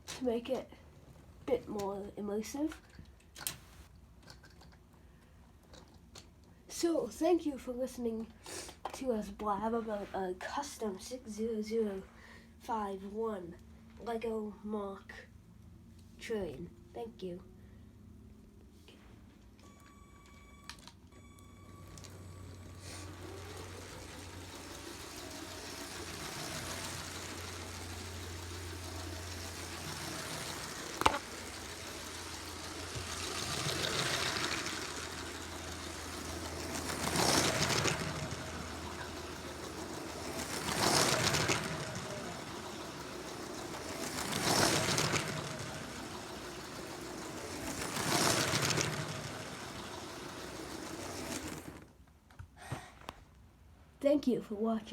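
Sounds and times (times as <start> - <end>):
toy train motor and wheel clatter: 0.0 - 12.0, 19.7 - 52.0.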